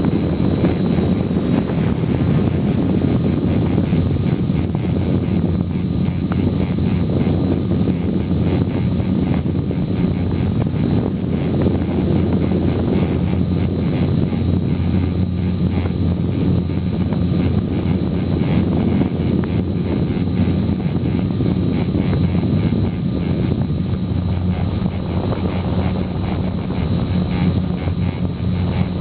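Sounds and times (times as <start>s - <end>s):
drone motors humming: 0.0s - 29.0s
high-pitched propeller whine: 0.0s - 29.0s.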